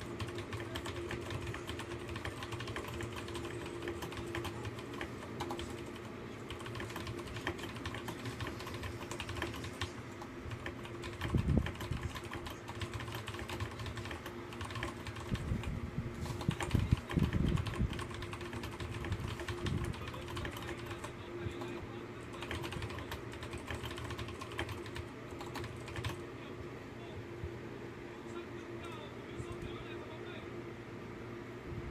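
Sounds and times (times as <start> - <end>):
fast typing on keyboard: 0.0 - 26.2
faint steady hum: 0.0 - 31.9.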